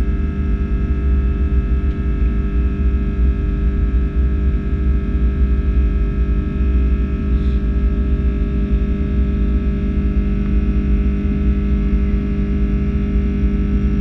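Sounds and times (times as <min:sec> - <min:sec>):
constant engine whine: 0:00.0 - 0:14.0
jet engine rumble in cabin: 0:00.0 - 0:14.0.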